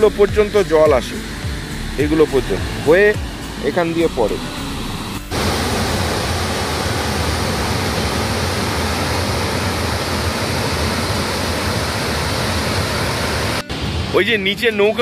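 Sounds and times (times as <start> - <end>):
large waterfall rushing: 1.2 - 15.0.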